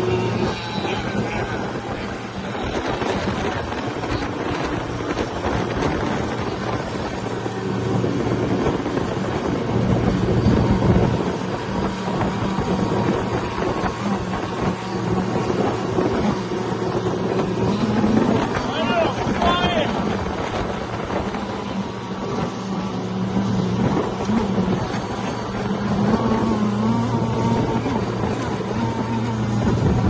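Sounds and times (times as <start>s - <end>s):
boat motor drone: 0.0s - 30.0s.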